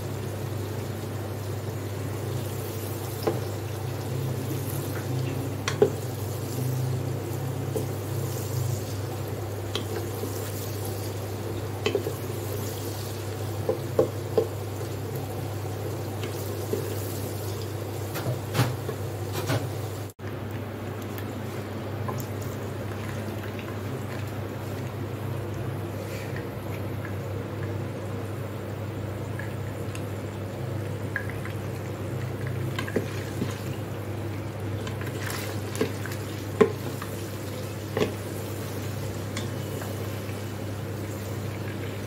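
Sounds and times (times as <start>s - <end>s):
onions frying in oil: 0.0s - 42.0s.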